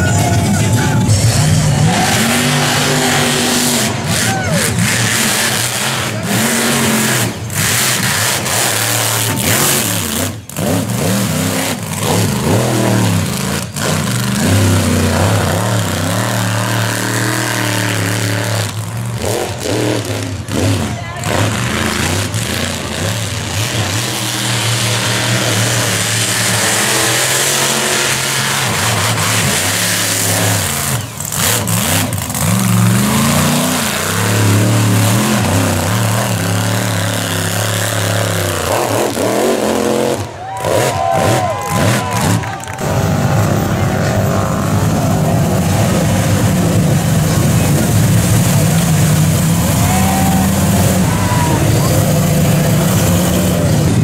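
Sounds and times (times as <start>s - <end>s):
race buggy engine revving: 0.0s - 54.0s.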